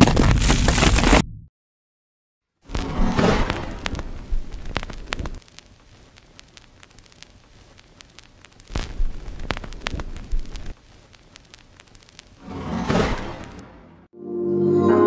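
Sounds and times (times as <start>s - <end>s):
vinyl record crackle: 0.0s - 1.3s, 2.6s - 13.8s.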